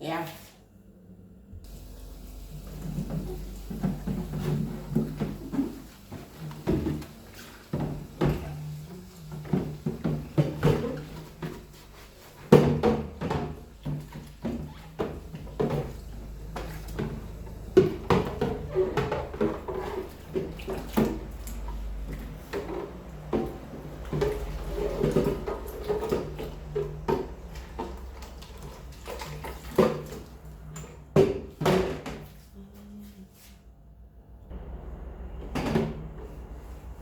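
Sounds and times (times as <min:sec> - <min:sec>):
kitchen items knocking and clattering: 0:02.7 - 0:32.4, 0:34.5 - 0:36.9.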